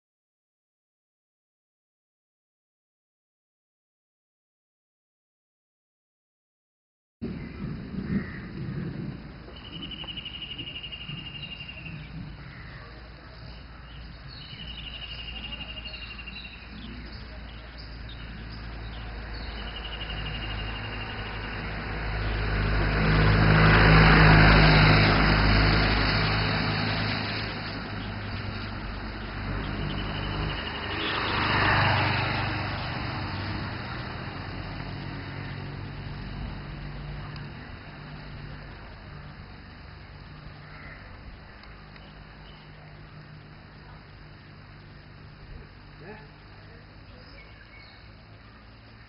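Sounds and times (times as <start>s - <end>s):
vehicle engine passing by: 7.2s - 49.0s.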